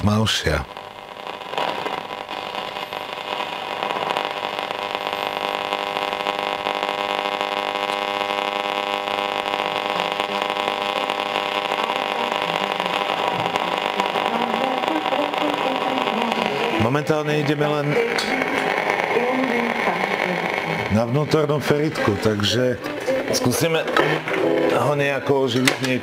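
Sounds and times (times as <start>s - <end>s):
radio loudspeaker buzzing hum: 0.0s - 26.0s.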